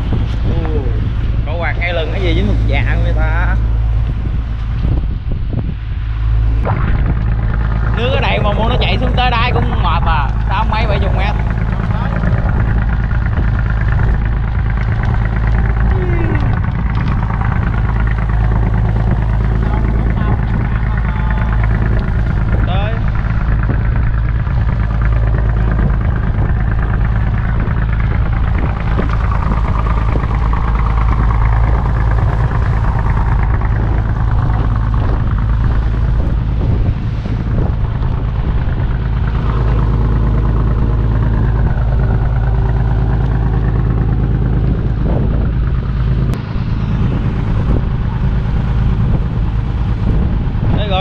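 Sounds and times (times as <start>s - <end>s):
boat engine droning: 0.0s - 51.0s
water washing against hull: 0.0s - 51.0s.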